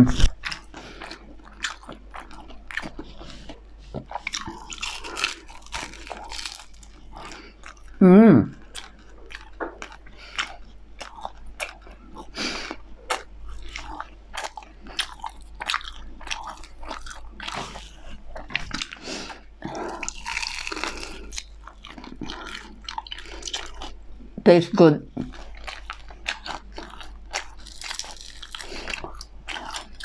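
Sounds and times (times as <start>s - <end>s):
chewing with crunches: 0.0s - 24.3s, 25.1s - 30.0s.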